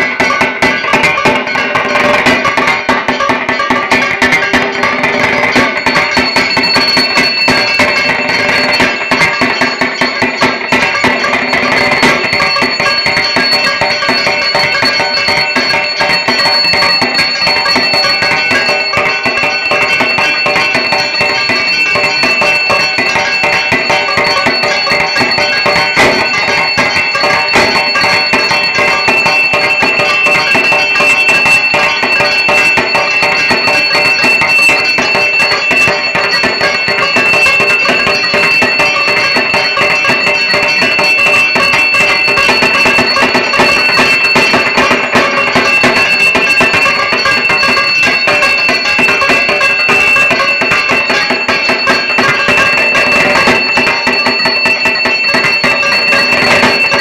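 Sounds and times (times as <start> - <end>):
barrel drum rapid rhythm: 0.0 - 57.0
steady high ringing tone: 0.0 - 57.0.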